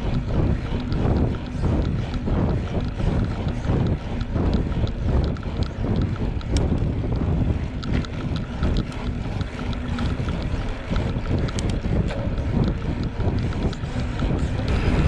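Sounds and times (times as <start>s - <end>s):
faint ticks: 0.0s - 15.0s
wind buffeting microphone: 0.0s - 15.0s.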